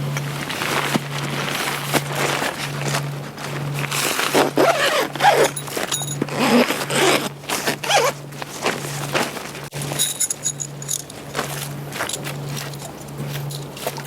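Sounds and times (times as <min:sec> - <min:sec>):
camping gear scraping: 0:00.0 - 0:13.8.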